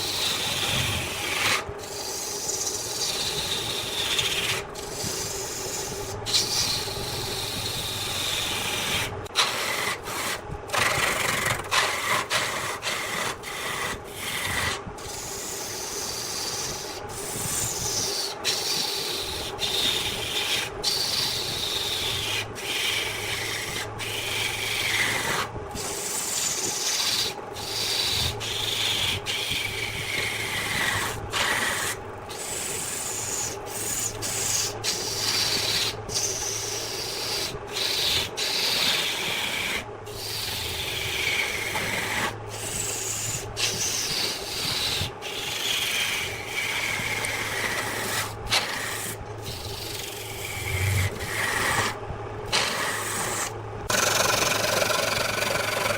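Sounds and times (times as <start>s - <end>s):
lathe humming: 0.0s - 55.9s
tool hissing on spinning wood: 0.0s - 55.9s.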